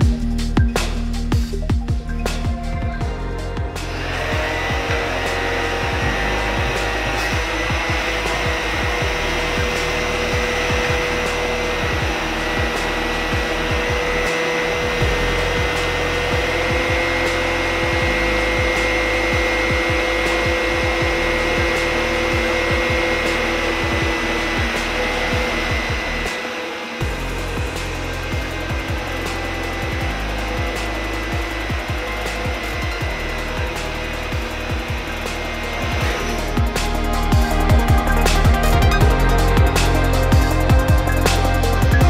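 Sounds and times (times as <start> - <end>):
electric pump motor whine: 0.0 - 42.0.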